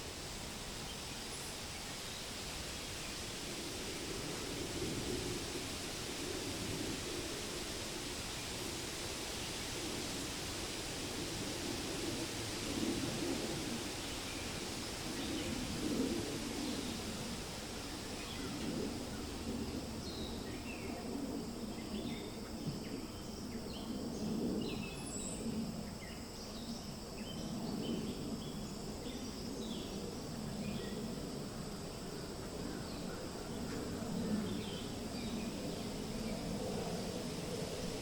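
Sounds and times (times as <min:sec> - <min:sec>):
low wind noise: 0:00.0 - 0:38.0.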